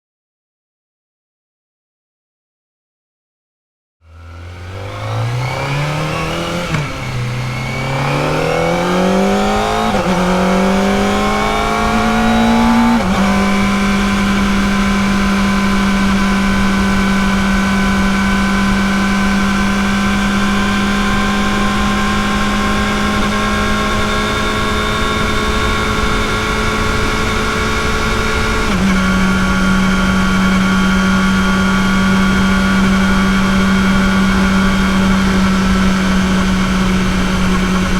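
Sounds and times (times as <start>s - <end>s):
motorcycle engine revving and shifting: 4.0s - 37.9s.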